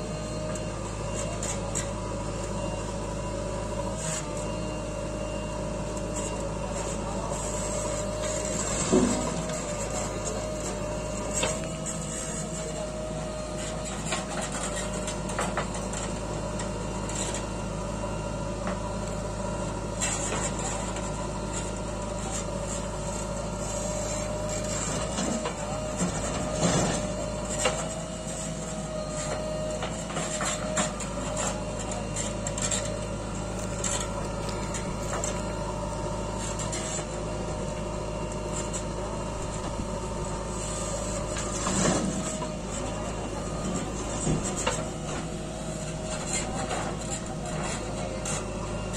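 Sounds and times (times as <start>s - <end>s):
diesel engine running: 0.0s - 48.9s
hydraulic whine: 0.0s - 48.9s.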